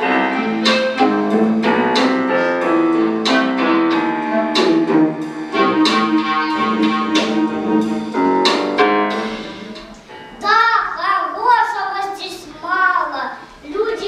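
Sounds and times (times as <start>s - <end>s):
piano background music: 0.0s - 11.5s.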